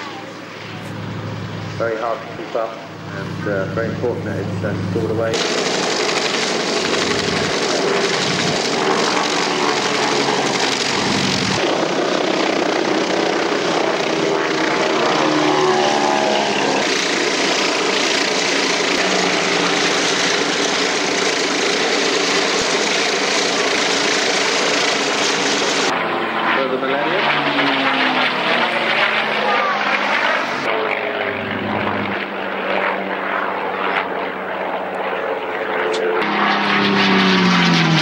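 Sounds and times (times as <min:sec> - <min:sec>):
propeller aircraft engines running: 0:00.0 - 0:38.0.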